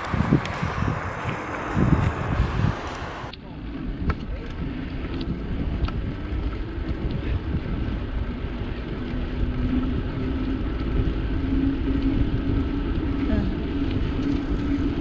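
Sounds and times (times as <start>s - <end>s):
bicycle tyres rolling: 0.0s - 3.3s, 3.9s - 15.0s
wind rushing over microphone: 0.0s - 15.0s.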